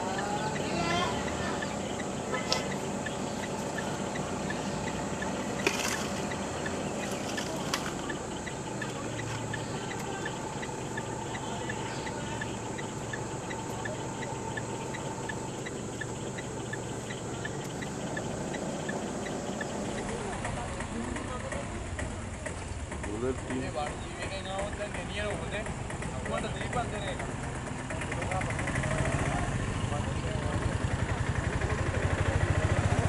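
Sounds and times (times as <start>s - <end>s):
faint insect chirping: 0.0s - 33.0s
outdoor background hum: 0.0s - 33.0s.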